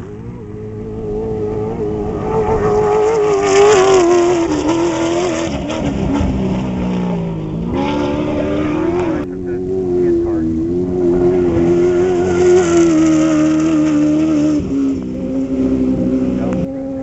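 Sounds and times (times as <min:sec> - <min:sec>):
race truck engine passing: 0:00.0 - 0:17.0.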